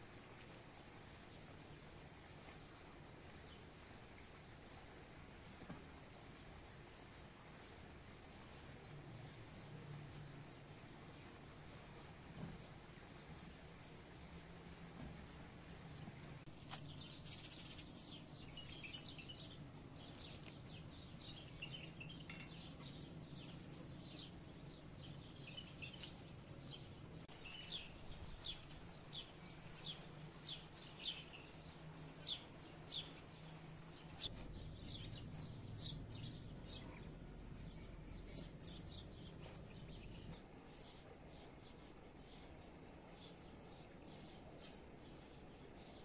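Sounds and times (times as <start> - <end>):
faint low hum: 0.0 - 46.0
small birds chirping: 0.0 - 46.0.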